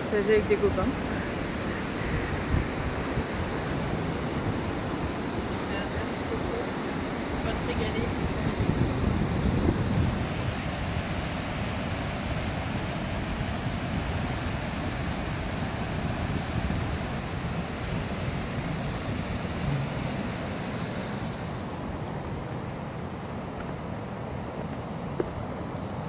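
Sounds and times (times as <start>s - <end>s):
surf breaking on shore: 0.0s - 23.3s
wind: 0.0s - 26.0s.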